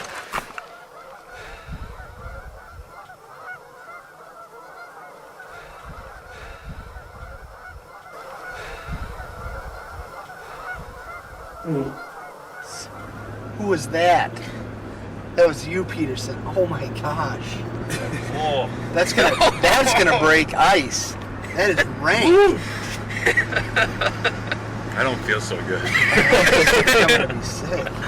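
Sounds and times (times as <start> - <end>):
geese and ducks calling: 0.0 - 28.0.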